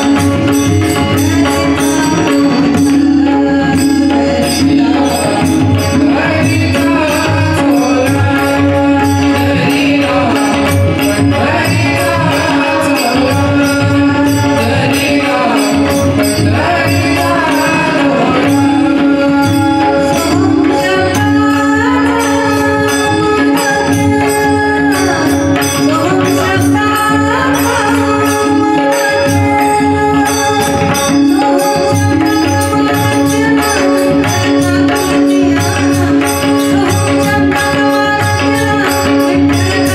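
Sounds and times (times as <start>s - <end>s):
tanpura and harmonium drone: 0.0s - 39.9s
women singing devotional song: 0.0s - 39.9s.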